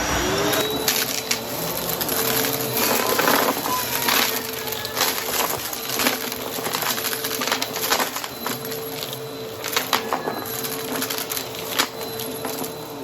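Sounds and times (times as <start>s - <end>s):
debris crackling in vacuum: 0.0s - 13.0s
vacuum cleaner motor hum: 0.0s - 13.0s.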